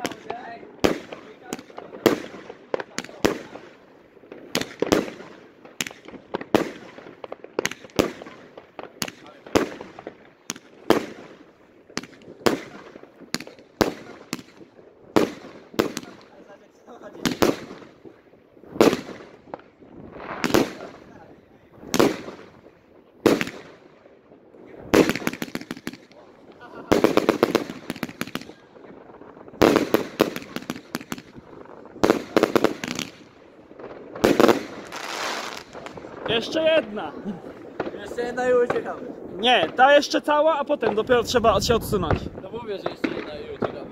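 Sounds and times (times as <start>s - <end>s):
firework shells bursting: 0.0s - 16.5s, 17.1s - 21.2s, 21.8s - 39.8s.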